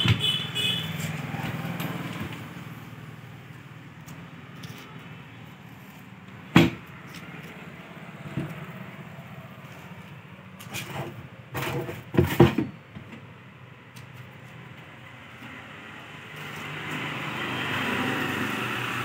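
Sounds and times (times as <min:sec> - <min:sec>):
road traffic hum: 0:00.0 - 0:19.0.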